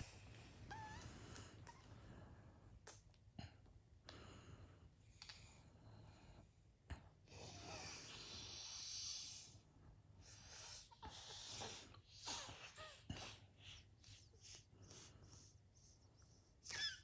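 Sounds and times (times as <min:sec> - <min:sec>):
soft breathing: 0:00.0 - 0:02.8, 0:03.4 - 0:16.6.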